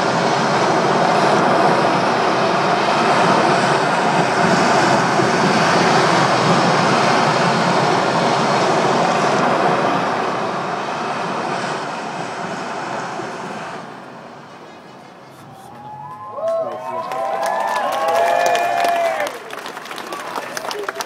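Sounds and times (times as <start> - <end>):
loud rushing noise over loudspeakers: 0.0 - 21.0.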